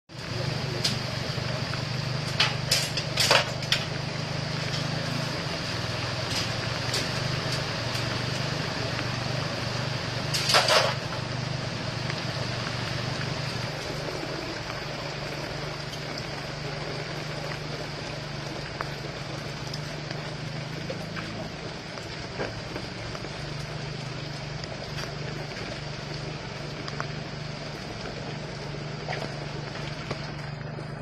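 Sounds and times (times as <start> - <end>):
engine humming: 0.1 - 31.0.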